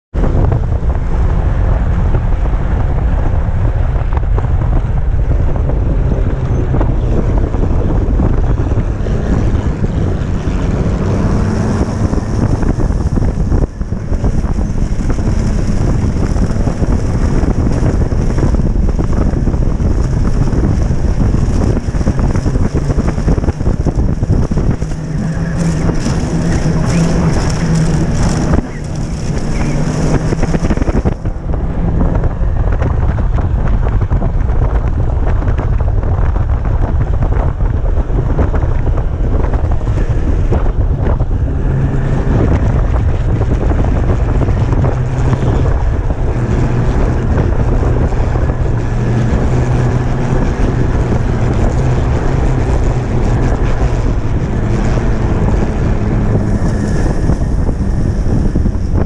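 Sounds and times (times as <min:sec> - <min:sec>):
snowmobile engine running: 0:00.1 - 0:59.0
wind buffeting microphone: 0:00.1 - 0:59.0.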